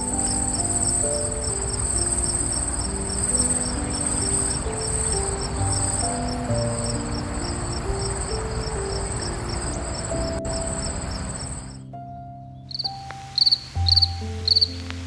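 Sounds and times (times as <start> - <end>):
crickets chirping: 0.0 - 11.8, 12.7 - 14.7
soft background music: 0.0 - 15.0.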